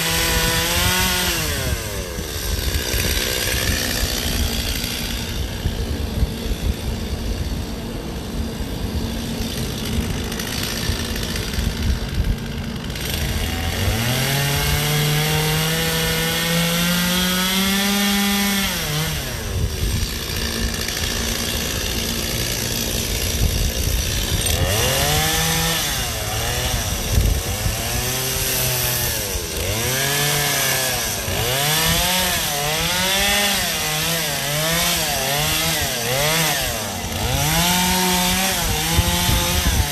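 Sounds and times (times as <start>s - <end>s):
chainsaw carving ice: 0.0s - 39.9s.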